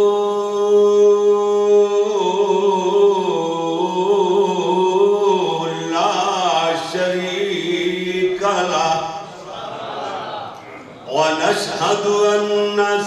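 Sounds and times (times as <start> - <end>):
man chanting: 0.0 - 9.4, 11.0 - 13.0.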